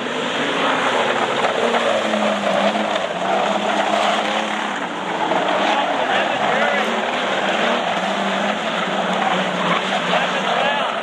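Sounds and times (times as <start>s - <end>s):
race car engines running hard: 0.0s - 11.0s.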